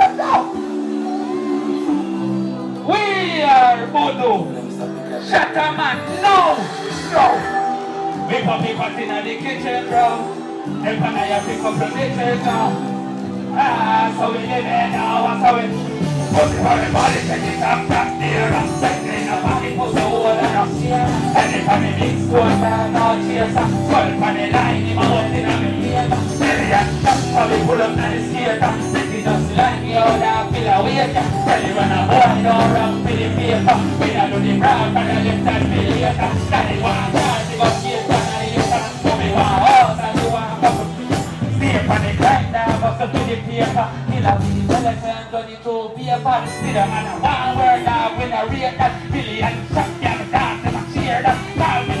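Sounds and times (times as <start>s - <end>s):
live band music: 0.0s - 45.2s, 46.2s - 52.0s
person singing into a microphone: 0.0s - 52.0s.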